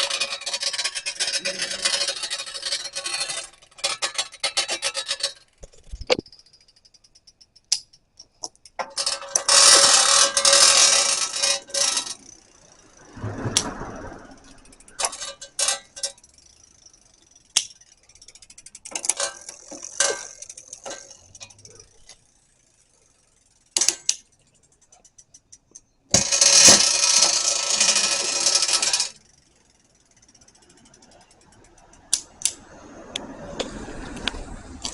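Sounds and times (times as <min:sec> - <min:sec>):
mechanism clicking and rattling: 0:00.0 - 0:32.6.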